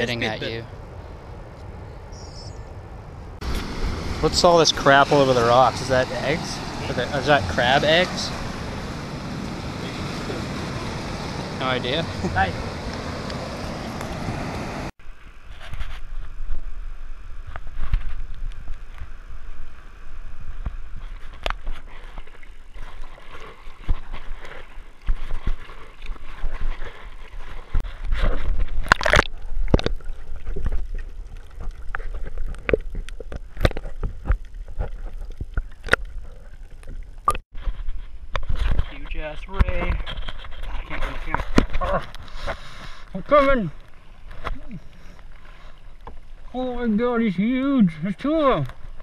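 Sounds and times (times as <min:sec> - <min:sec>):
water sloshing and gurgling: 0:03.4 - 0:47.0.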